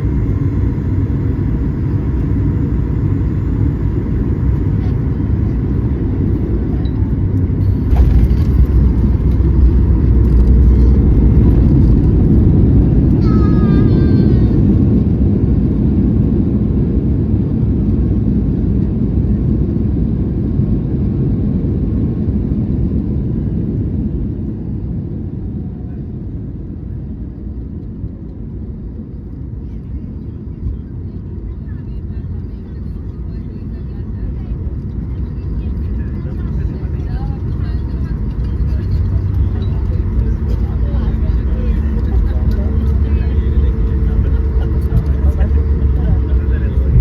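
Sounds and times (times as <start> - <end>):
jet engines reverse thrust: 0.0 - 13.8, 14.4 - 47.0
airliner landing roll rumble: 0.0 - 47.0.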